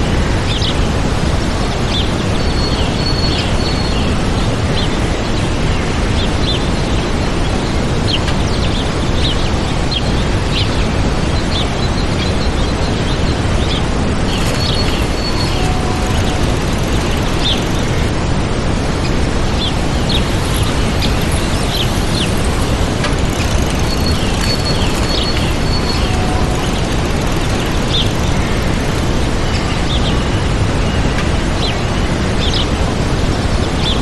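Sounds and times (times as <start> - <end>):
waterfall rushing: 0.0 - 34.0
small birds chirping: 1.4 - 34.0.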